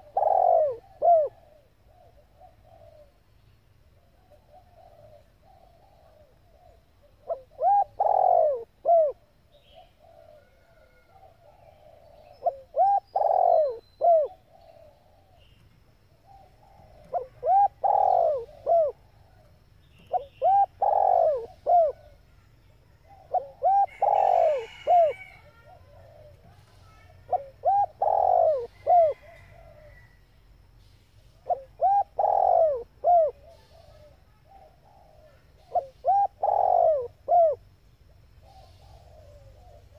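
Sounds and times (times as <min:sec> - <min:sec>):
dove cooing: 0:00.0 - 0:03.3, 0:03.9 - 0:30.2, 0:31.3 - 0:39.9.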